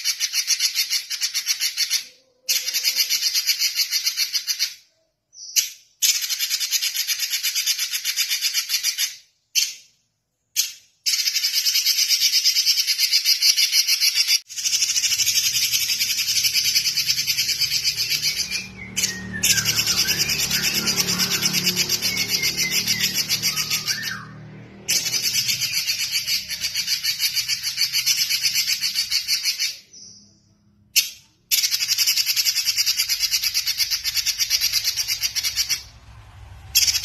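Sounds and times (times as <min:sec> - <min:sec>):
bird singing chattering song: 0:00.0 - 0:09.9, 0:10.6 - 0:36.0.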